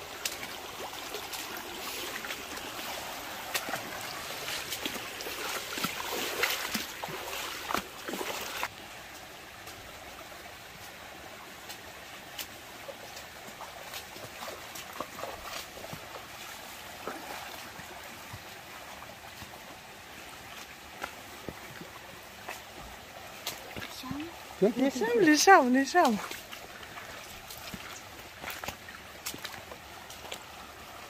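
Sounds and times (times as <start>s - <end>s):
water splashing: 0.0s - 8.8s, 10.8s - 31.0s
stream water trickling: 0.0s - 31.0s.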